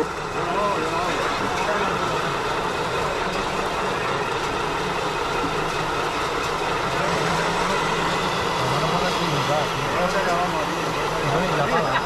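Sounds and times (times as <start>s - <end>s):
radio-controlled trucks mechanical hum: 0.0s - 12.0s.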